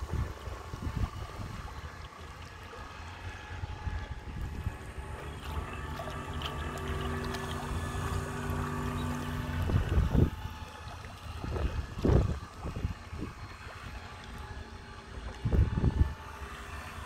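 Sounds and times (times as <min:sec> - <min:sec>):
wind buffeting microphone: 0:00.0 - 0:02.4, 0:03.4 - 0:17.0
model boat motor humming: 0:00.0 - 0:17.0.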